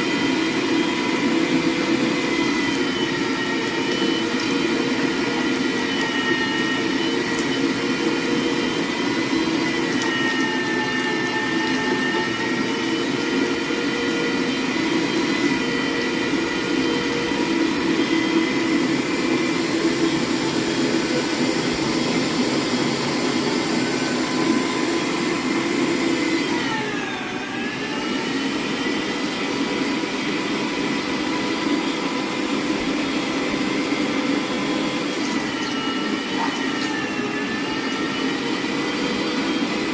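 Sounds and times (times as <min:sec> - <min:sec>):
electric meat grinder whining: 0:00.0 - 0:39.9.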